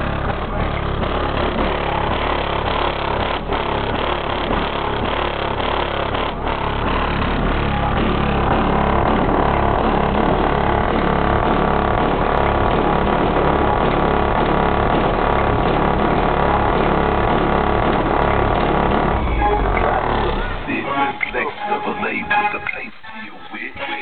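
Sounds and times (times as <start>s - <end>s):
heavy bass song through subwoofer: 0.0s - 24.0s.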